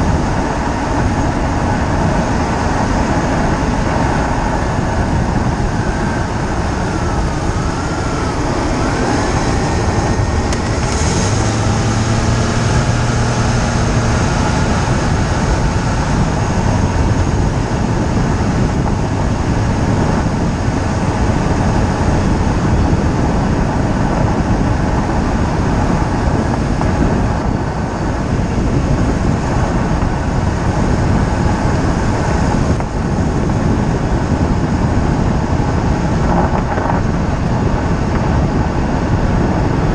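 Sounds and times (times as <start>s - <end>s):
tire and wind noise: 0.0s - 39.9s.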